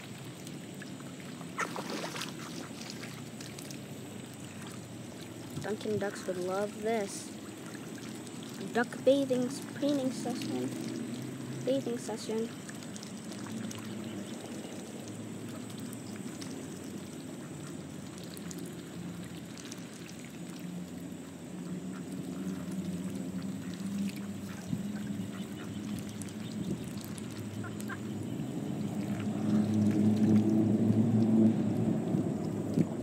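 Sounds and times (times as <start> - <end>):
ducks splashing and dabbling: 0.0 - 33.0.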